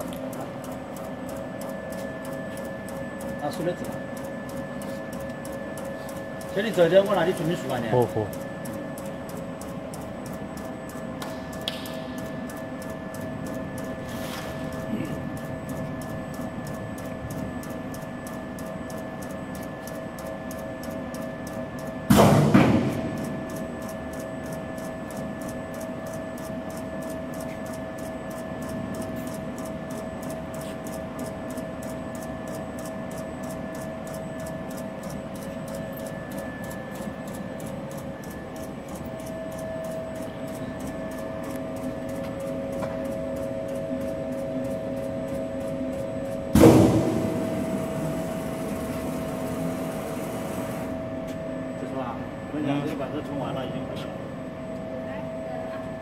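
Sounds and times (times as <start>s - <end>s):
punch press humming: 0.0s - 51.1s.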